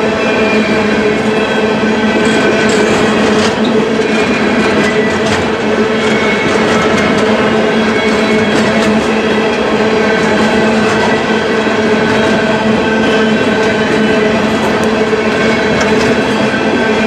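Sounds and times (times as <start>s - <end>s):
train wheels rumbling and rattling: 0.0s - 17.0s.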